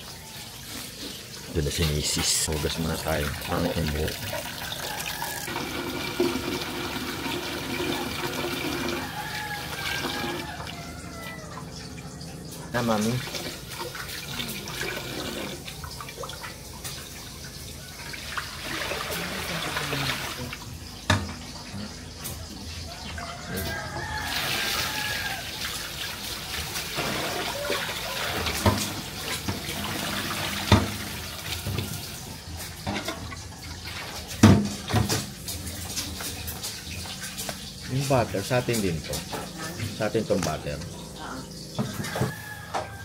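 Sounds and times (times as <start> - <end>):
tap water running into sink: 1.0 - 12.1, 12.7 - 43.0.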